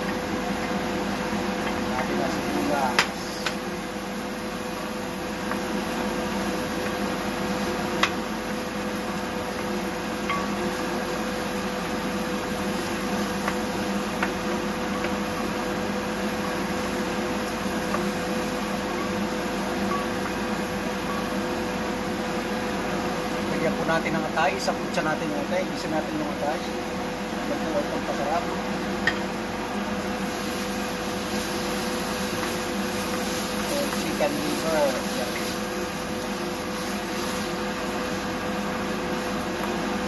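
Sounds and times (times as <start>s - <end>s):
onions sizzling in a pan: 0.0s - 40.0s
steady hum: 0.0s - 40.0s.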